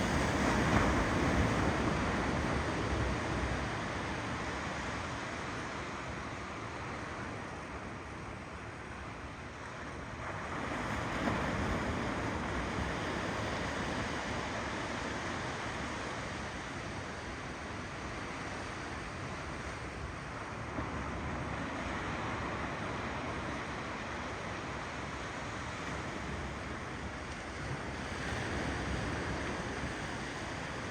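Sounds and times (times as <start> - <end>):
ocean waves washing over shore: 0.0 - 7.8, 9.6 - 30.9.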